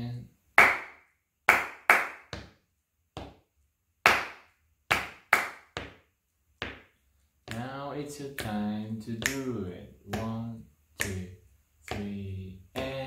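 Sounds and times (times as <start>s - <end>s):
hand claps in rhythm: 0.6s - 2.6s, 3.2s - 13.0s.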